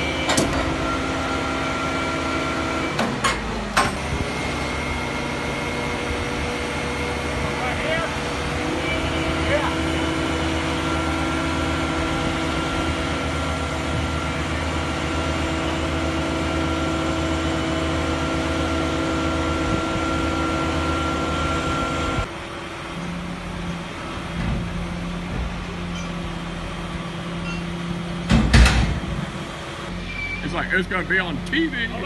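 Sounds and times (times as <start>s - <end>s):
crane diesel engine humming: 0.0s - 32.0s
hydraulic high whine: 0.0s - 32.0s.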